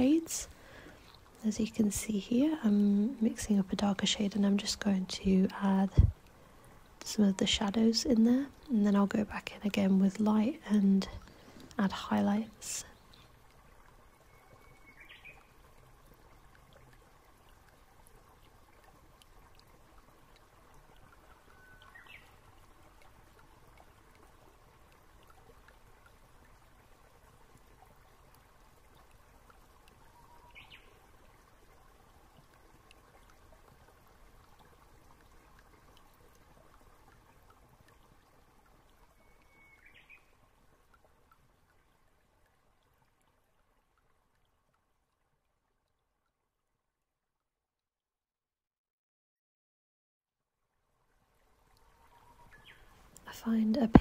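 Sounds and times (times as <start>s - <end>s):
faint running water hiss: 0.0s - 47.1s, 50.6s - 54.0s.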